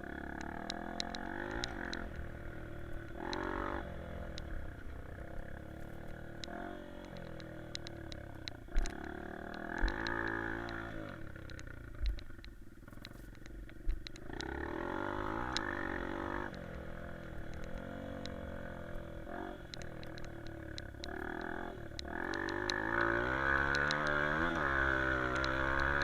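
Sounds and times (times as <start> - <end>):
dirt bike engine revving: 0.0 - 11.8, 14.2 - 26.0.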